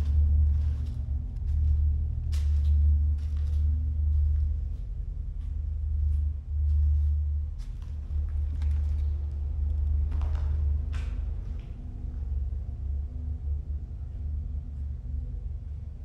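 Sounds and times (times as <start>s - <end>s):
deep ambient drone: 0.0s - 16.0s.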